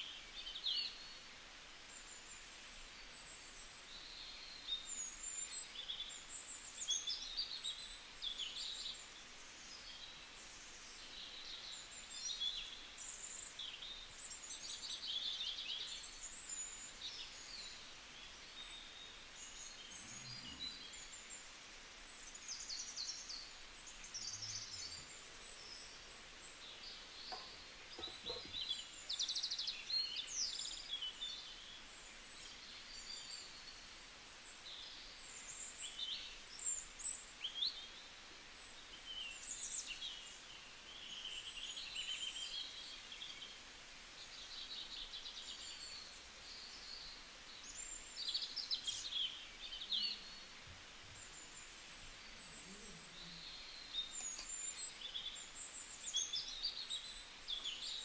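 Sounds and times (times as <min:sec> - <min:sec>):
songbirds chirping and trilling: 0:00.0 - 0:58.0
steady background hiss: 0:00.0 - 0:58.0.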